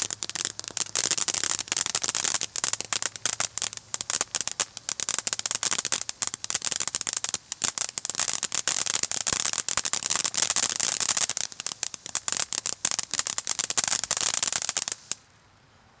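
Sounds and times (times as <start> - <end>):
firework fountain crackling: 0.0 - 15.3.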